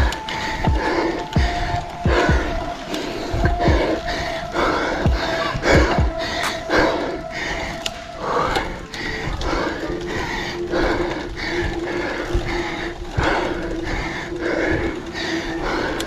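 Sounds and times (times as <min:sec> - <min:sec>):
cyclist panting: 0:00.0 - 0:16.0.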